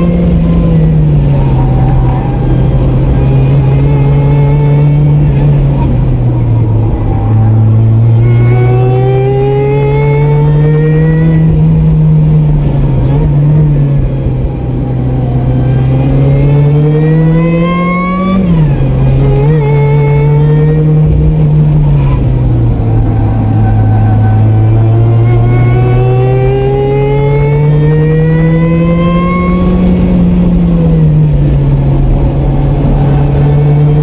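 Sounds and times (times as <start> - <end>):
car engine revving under load: 0.0 - 34.0.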